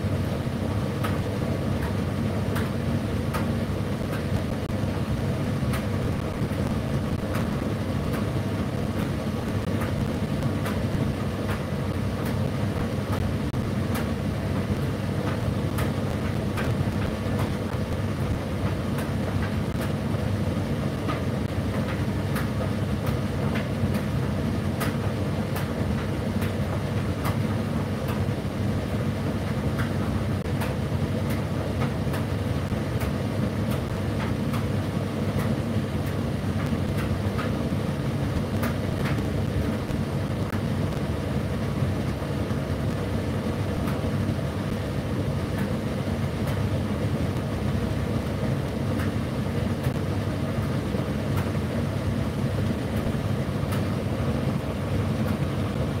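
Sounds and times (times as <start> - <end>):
tumble dryer humming: 0.0 - 56.0.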